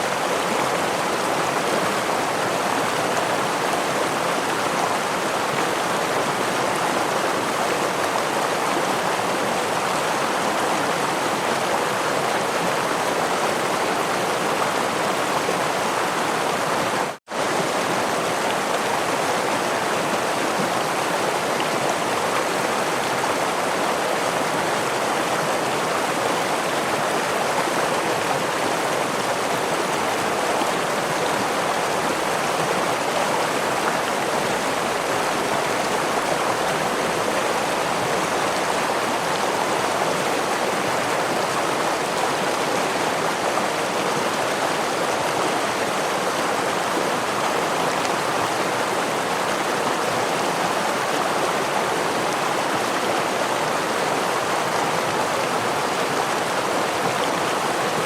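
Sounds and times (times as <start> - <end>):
water rushing in stream: 0.0 - 58.0.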